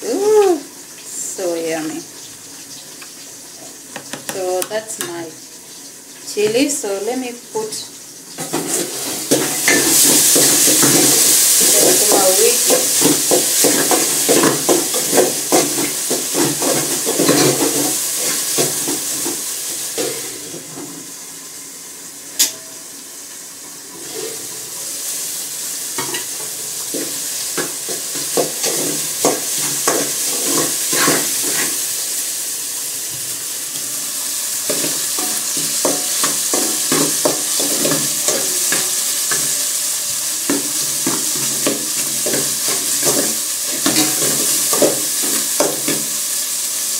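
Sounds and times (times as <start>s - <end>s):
tomatoes sizzling in pot: 0.0s - 46.9s.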